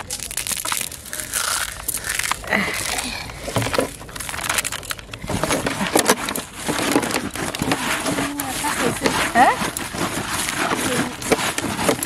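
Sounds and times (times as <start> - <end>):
hands crumbling dry noodles: 0.0 - 12.0.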